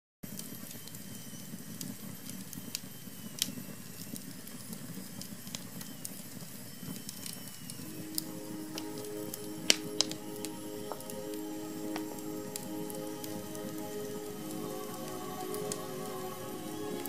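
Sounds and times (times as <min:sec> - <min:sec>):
firewood crackling and popping: 0:00.3 - 0:17.0.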